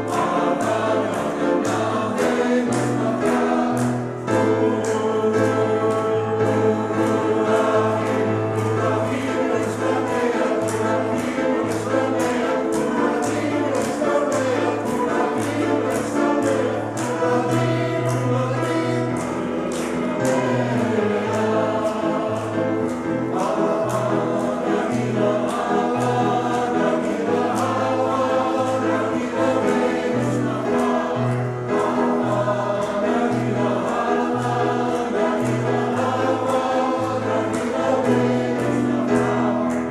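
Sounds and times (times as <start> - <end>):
choir singing upbeat song: 0.0 - 39.9.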